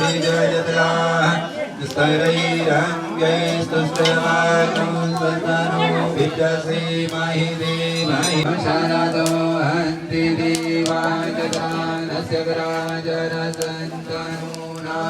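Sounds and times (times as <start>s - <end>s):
devotional chanting: 0.0s - 15.0s.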